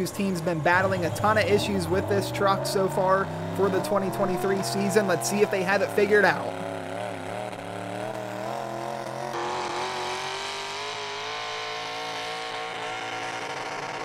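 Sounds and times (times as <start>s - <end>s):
truck engine running hard: 0.0s - 14.0s.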